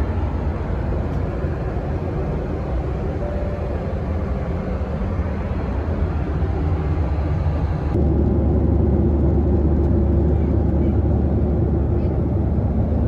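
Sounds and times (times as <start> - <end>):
airliner cabin engine rumble: 0.0 - 13.0
dull heavy low hum: 0.0 - 13.0.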